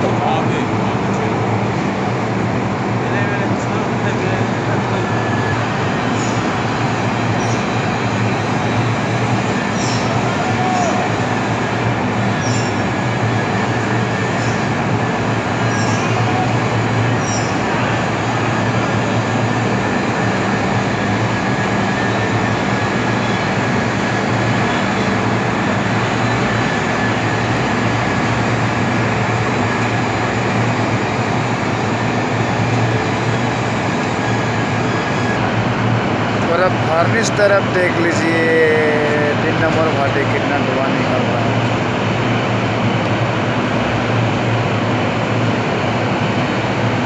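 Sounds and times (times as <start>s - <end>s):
furnace rushing roar: 0.0s - 47.0s.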